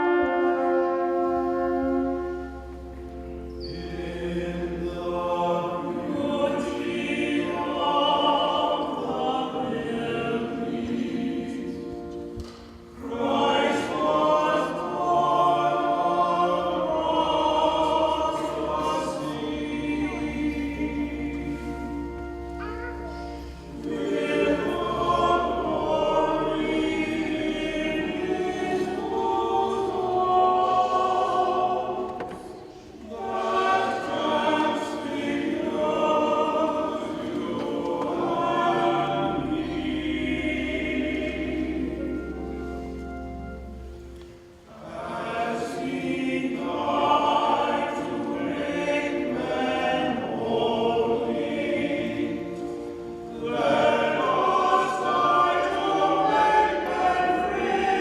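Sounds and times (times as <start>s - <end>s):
choir singing sustained chords: 0.0s - 58.0s.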